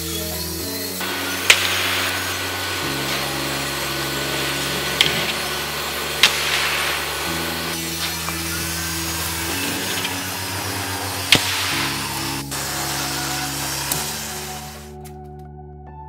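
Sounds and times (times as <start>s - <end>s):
table saw whirring: 0.0s - 15.2s.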